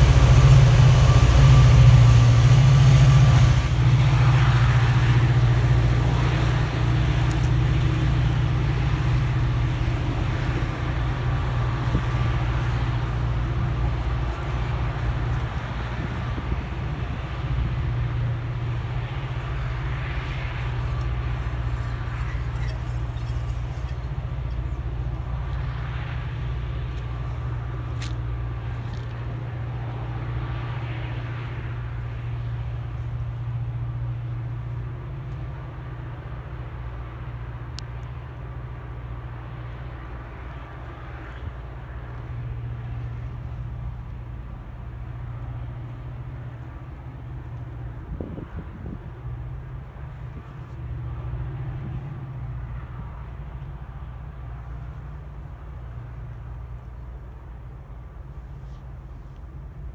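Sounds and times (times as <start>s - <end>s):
distant diesel locomotives droning: 0.0s - 59.9s.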